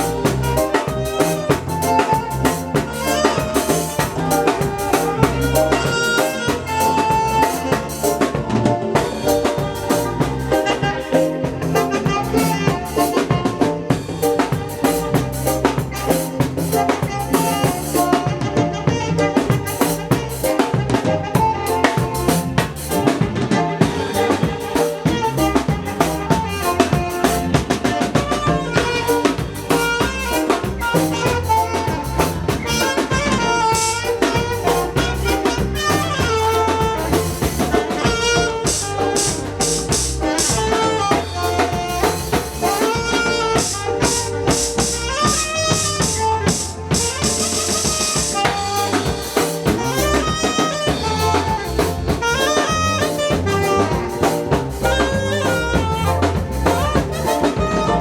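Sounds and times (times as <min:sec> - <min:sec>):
drum kit beat: 0:00.0 - 0:58.0
low bass line: 0:00.0 - 0:58.0
wavering lead melody: 0:00.0 - 0:58.0.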